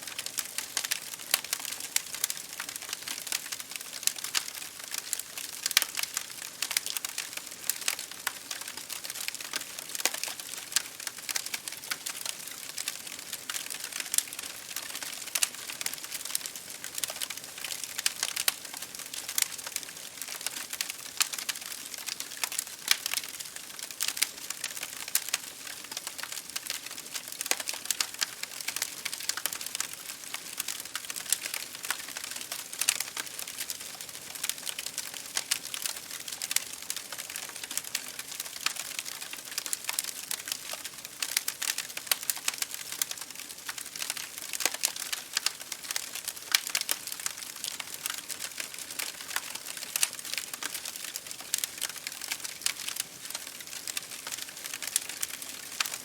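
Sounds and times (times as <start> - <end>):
wood fire crackling: 0.0 - 56.0
rain hitting a window: 0.2 - 56.0.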